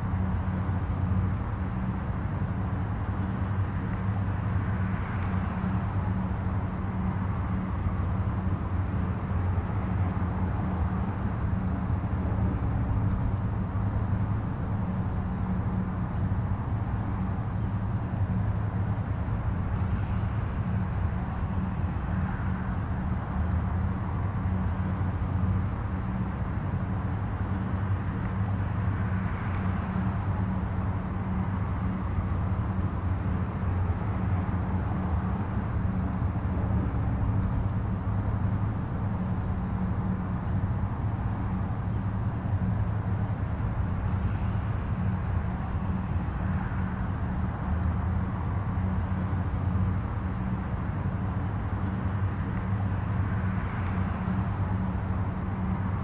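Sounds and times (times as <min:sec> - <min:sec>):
distant highway traffic rumble: 0:00.0 - 0:56.0
vehicles passing: 0:00.0 - 0:56.0.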